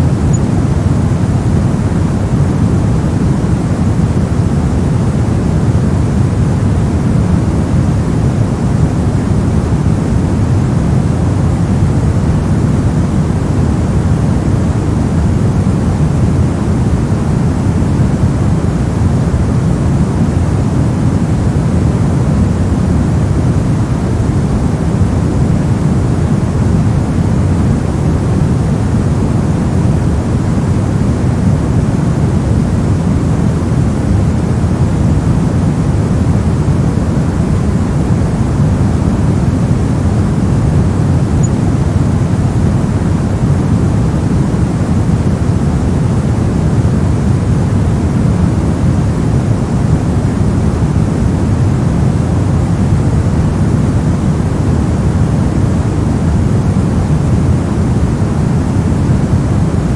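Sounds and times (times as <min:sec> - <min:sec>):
deep white noise: 0:00.0 - 0:59.9.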